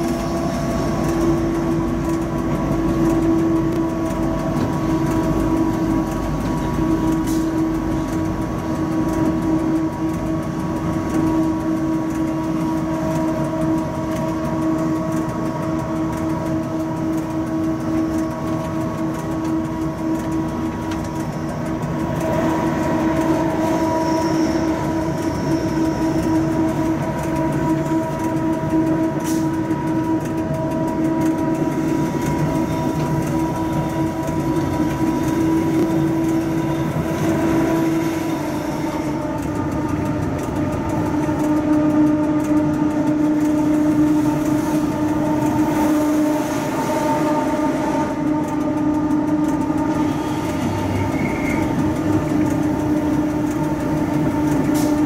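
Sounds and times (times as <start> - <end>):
locomotive running gear whine: 0.0 - 55.0
train wheels rumbling on rails: 0.0 - 55.0.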